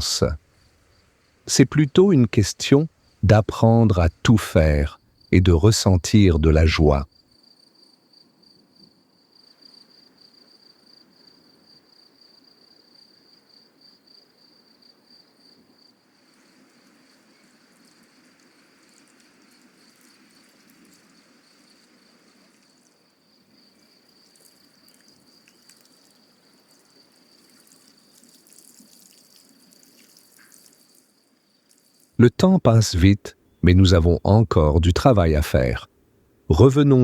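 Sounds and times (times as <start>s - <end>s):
cricket trilling: 0.0s - 35.8s.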